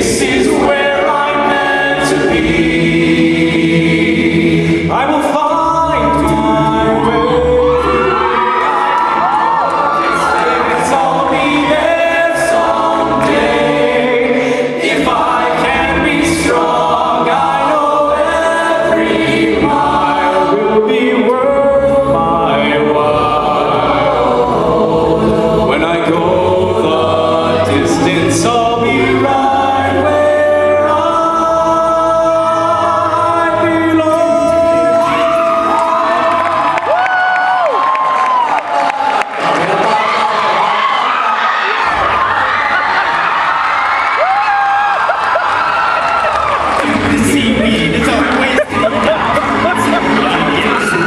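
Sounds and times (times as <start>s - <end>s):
a cappella group singing: 0.0s - 37.0s, 46.6s - 51.0s.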